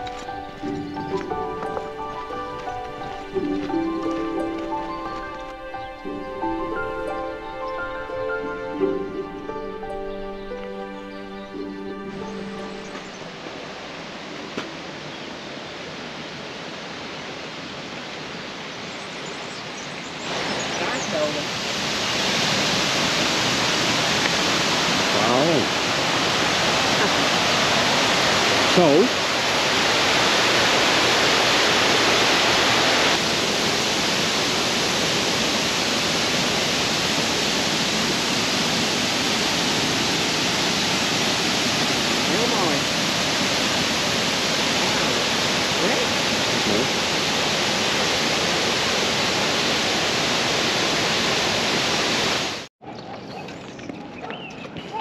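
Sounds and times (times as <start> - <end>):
running water rushing: 0.0 - 52.7.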